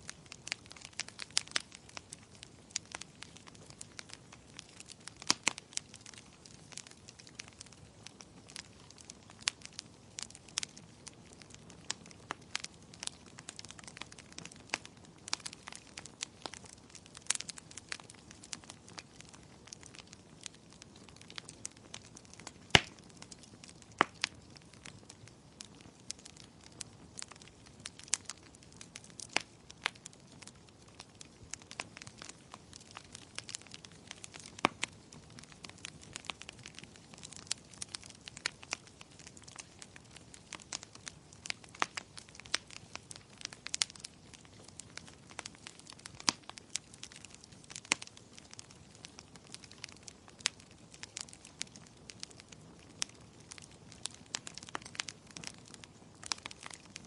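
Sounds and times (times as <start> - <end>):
gentle rain: 0.0 - 57.0
wood fire crackling: 0.0 - 57.0.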